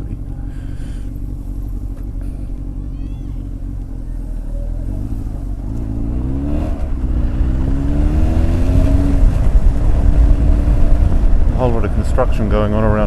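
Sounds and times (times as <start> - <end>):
motorcycle engine accelerating: 0.0 - 13.0
wind and road rumble: 0.0 - 13.0.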